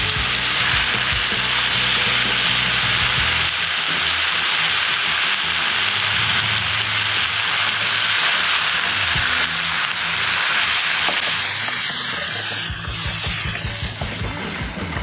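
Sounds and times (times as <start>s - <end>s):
meat sizzling in a frying pan: 0.0s - 14.6s.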